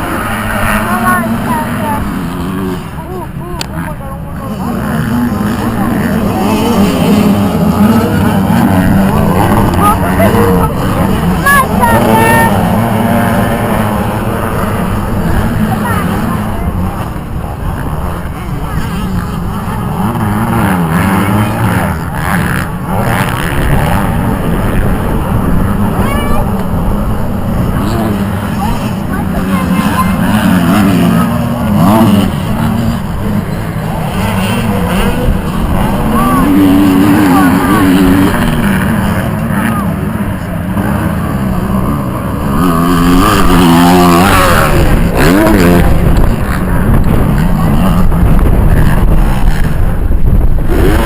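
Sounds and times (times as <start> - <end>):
motocross bike engine revving: 0.0 - 51.0.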